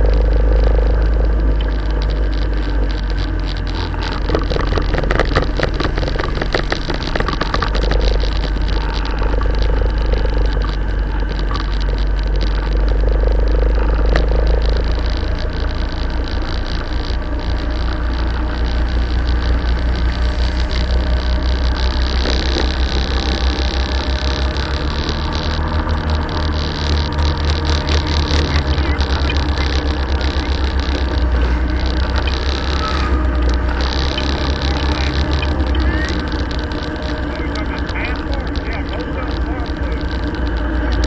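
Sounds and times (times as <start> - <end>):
motorcycle engine running: 0.0 - 41.0
wind noise: 0.0 - 41.0.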